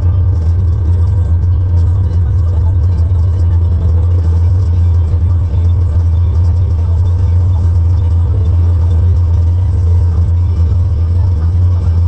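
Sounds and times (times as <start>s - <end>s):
faint steady tones: 0.0s - 12.0s
tractor engine under load: 0.0s - 12.0s.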